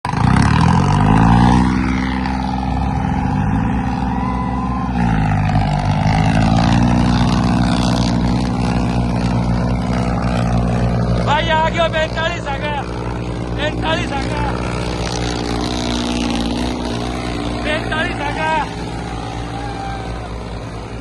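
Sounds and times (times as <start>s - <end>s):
tractor engine revving: 0.0s - 21.0s.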